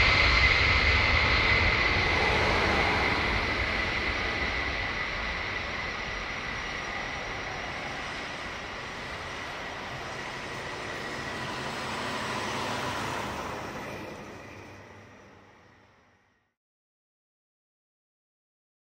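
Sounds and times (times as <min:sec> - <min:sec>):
jet engines at takeoff: 0:00.0 - 0:16.2.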